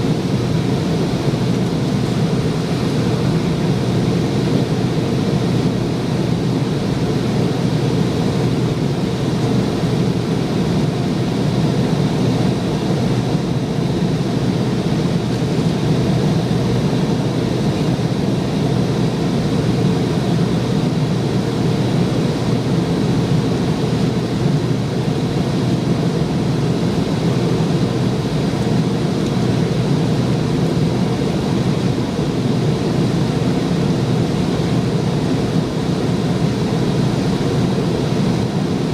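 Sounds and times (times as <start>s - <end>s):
jet engine noise in cabin: 0.0s - 38.9s.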